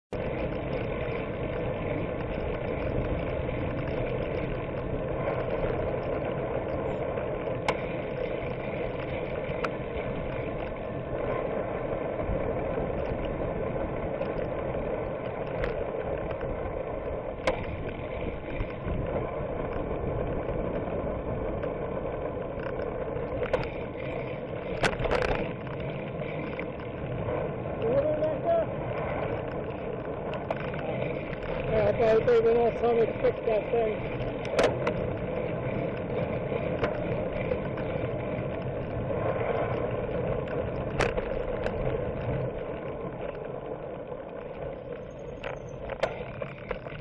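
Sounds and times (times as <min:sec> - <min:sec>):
bike rattling over bumps: 0:00.1 - 0:47.0
tyres rolling on pavement: 0:00.1 - 0:47.0
wind on microphone: 0:00.1 - 0:47.0.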